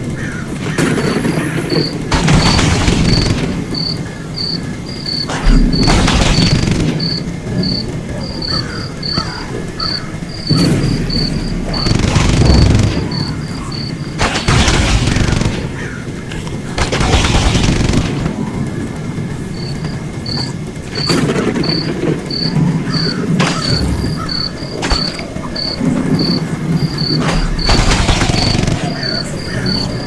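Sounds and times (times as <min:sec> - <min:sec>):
crickets chirping: 0:00.0 - 0:30.0
rushing rumbling surges: 0:00.0 - 0:30.0.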